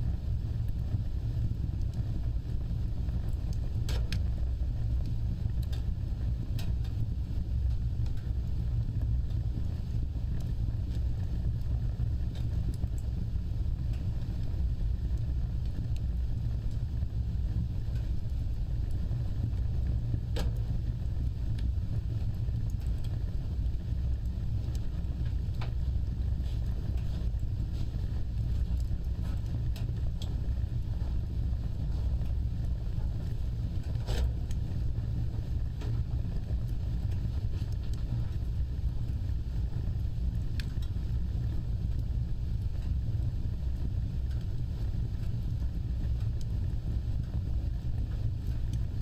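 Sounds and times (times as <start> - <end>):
fire roaring: 0.0 - 49.0
wood crackling and popping: 0.0 - 49.0.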